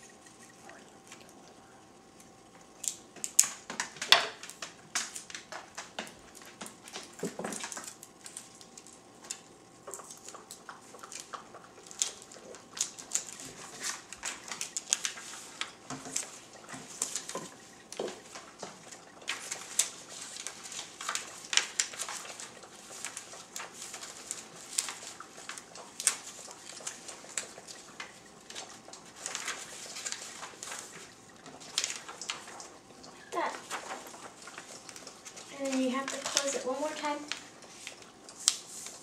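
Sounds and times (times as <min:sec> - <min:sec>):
paper card rustling and crinkling: 0:02.8 - 0:39.0.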